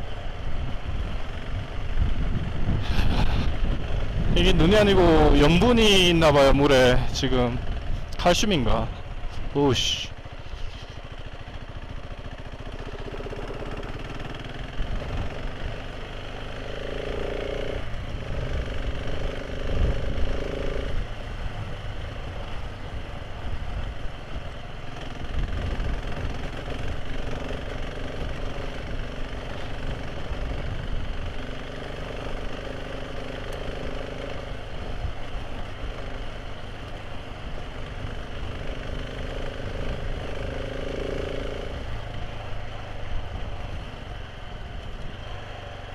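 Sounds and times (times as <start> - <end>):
motorcycle engine rumbling: 0.0 - 45.9.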